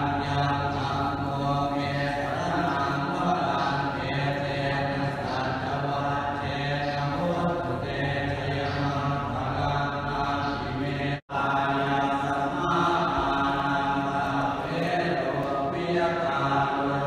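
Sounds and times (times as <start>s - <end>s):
low monotone chanting: 0.0s - 17.0s.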